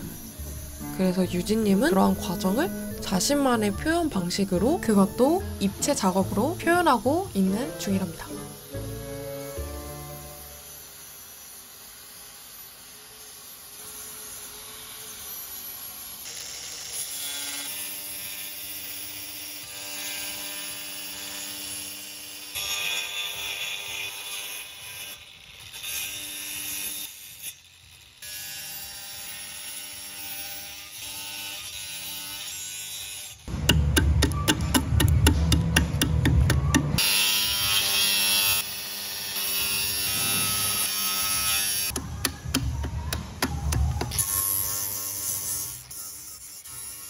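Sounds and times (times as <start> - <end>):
angle grinder cutting wood: 0.0 - 47.0.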